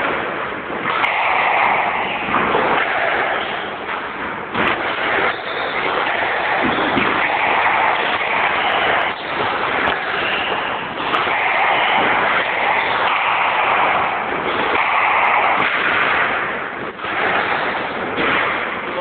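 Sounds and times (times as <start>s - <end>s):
squash ball hitting racket and walls: 0.0s - 19.0s
steady rushing noise: 0.0s - 19.0s.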